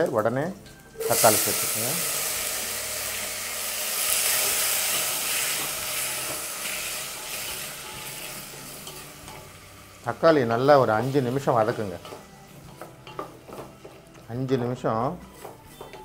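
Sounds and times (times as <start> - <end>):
tomatoes sizzling in hot oil: 0.0 - 15.8.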